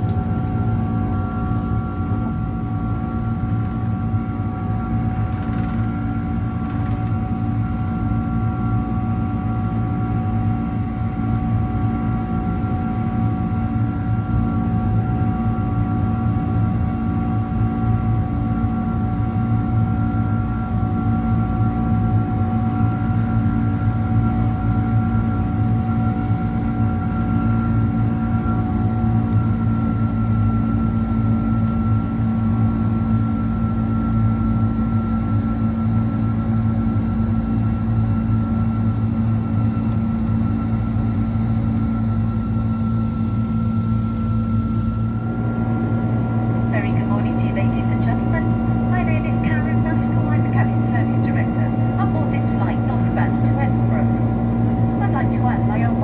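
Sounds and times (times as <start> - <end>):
jet engines rumbling: 0.0 - 56.0
steady whining tones: 0.0 - 56.0.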